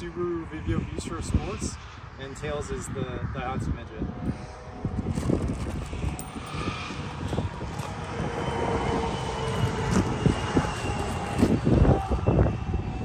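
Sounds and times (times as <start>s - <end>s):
engine drone passing by: 0.0s - 13.0s.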